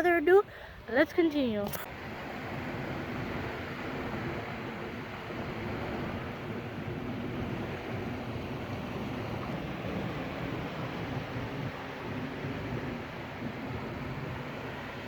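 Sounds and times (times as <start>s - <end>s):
wind rumbling on microphone: 0.0s - 15.0s
waves breaking on beach: 0.3s - 15.0s.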